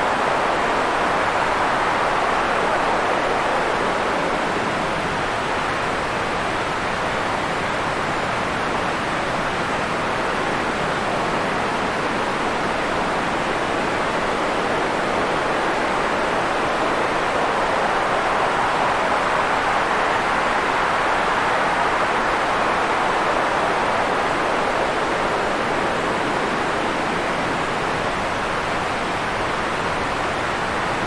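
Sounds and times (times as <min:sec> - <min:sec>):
white noise hiss: 0:00.0 - 0:31.0.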